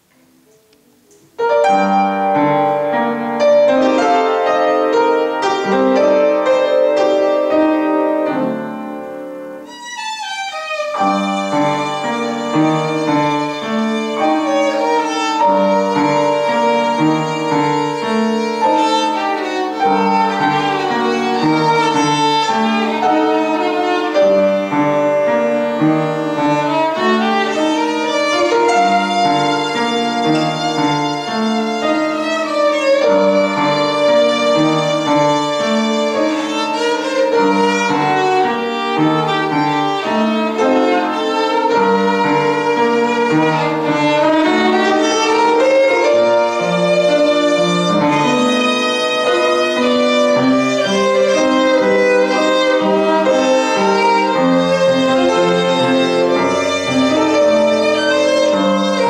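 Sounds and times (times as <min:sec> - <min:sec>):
piano playing: 0:00.0 - 0:59.0
violin bowed melody: 0:00.0 - 0:59.0.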